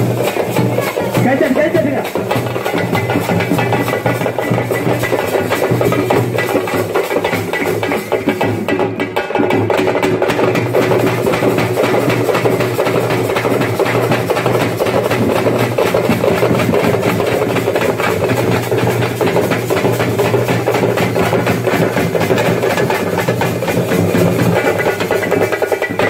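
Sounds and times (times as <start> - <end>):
frame drums beating fast: 0.0 - 26.0.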